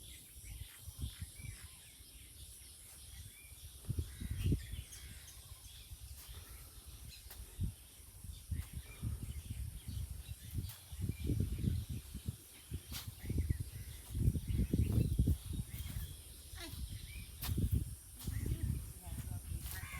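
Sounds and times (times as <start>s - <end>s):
faint bird chirps: 0.0s - 19.9s.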